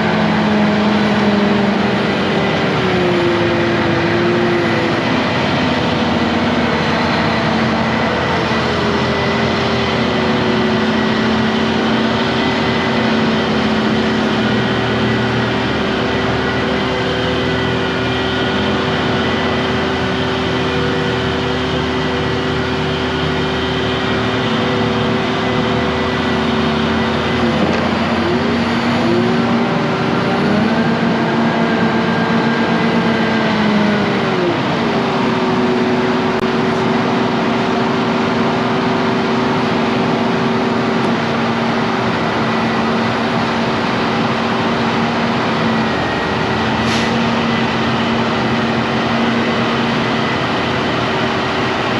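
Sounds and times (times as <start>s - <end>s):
engine humming: 0.0s - 51.9s.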